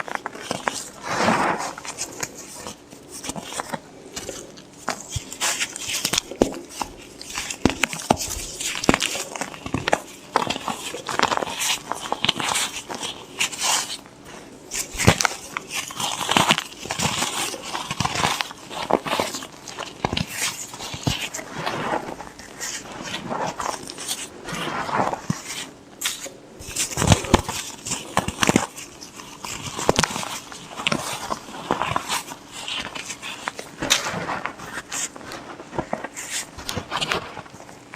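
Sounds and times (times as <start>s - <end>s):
chalk crackling as it is crushed: 0.0s - 37.9s.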